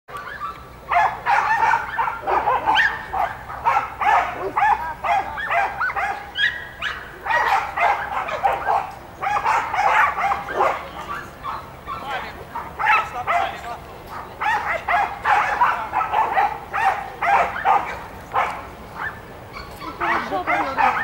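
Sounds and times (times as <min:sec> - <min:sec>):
dog barking rapidly: 0:00.2 - 0:21.0.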